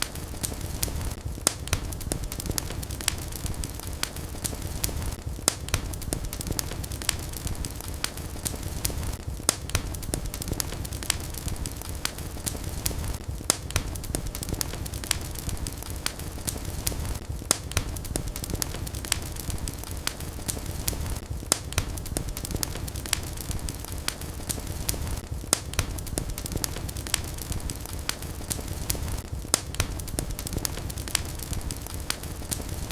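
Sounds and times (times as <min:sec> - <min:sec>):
low rumble of flames: 0:00.0 - 0:32.9
wood fire crackling: 0:00.0 - 0:32.9.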